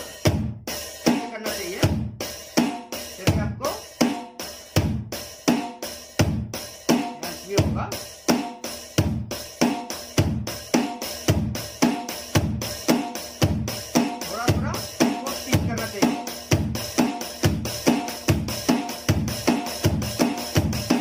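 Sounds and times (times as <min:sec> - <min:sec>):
electronic drum pad beat: 0:00.0 - 0:21.0.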